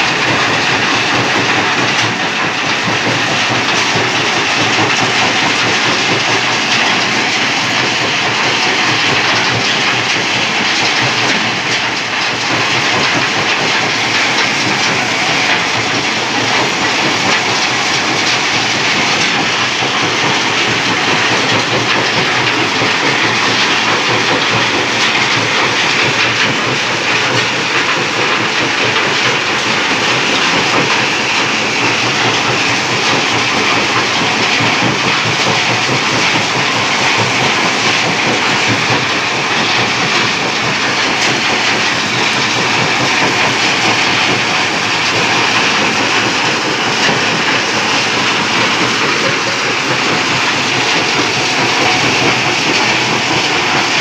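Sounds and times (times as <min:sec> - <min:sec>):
machinery hum: 0:00.0 - 0:54.0
rock crushing clatter: 0:00.0 - 0:54.0.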